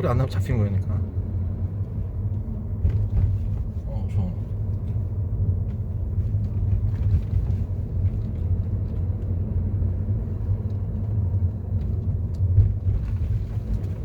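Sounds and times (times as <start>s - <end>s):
road rumble inside car cabin: 0.0s - 14.0s.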